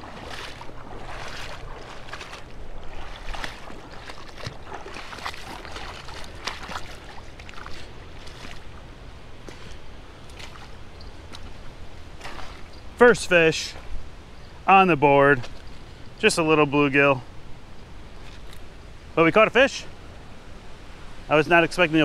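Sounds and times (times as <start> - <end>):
river water flowing: 0.0 - 22.0.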